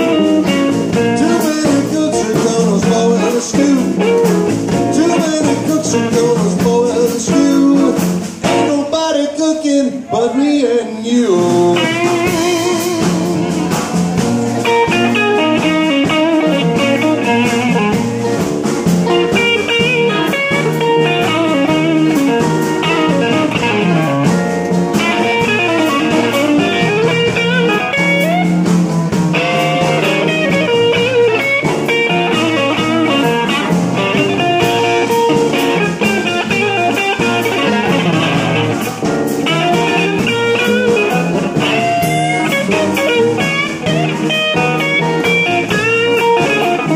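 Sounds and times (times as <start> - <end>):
drums: 0.0 - 46.9
electric guitars: 0.0 - 46.9
upright bass: 0.0 - 46.9.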